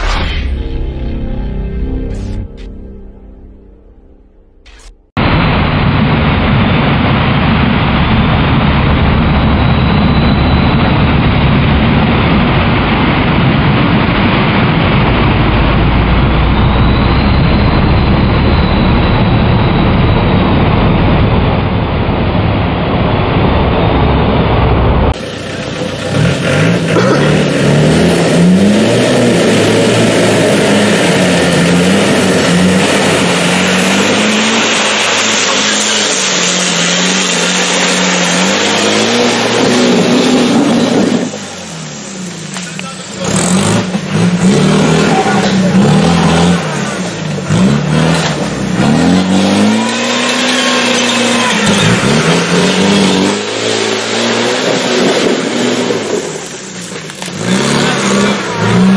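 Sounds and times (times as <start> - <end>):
engine revving: 4.7 - 58.9
off-roader driving through mud: 8.6 - 58.9.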